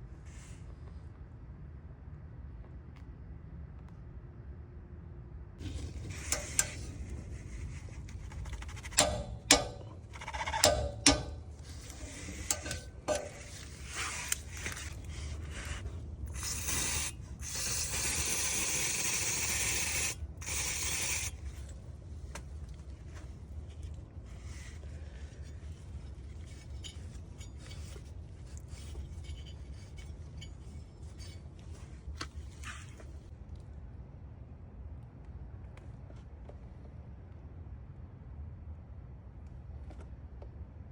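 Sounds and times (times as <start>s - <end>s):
low background hum: 0.0s - 40.9s.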